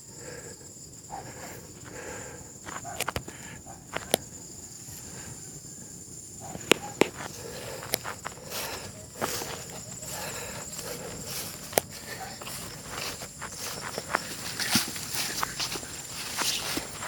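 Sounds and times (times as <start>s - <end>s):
footsteps on dry grass and twigs: 1.2s - 5.1s, 6.4s - 17.0s.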